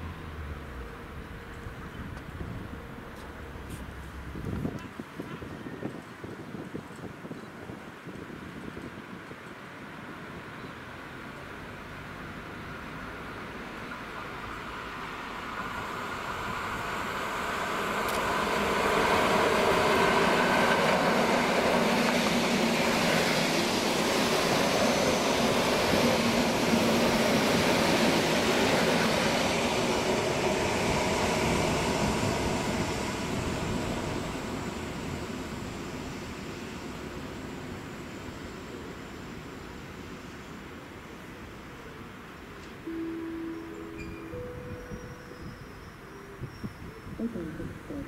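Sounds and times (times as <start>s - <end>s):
train passing rumble: 0.0s - 48.0s.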